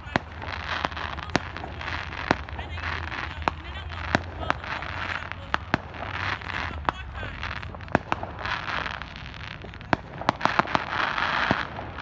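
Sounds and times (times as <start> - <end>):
crackling hiss: 0.0 - 12.0
firecracker bangs: 0.0 - 12.0.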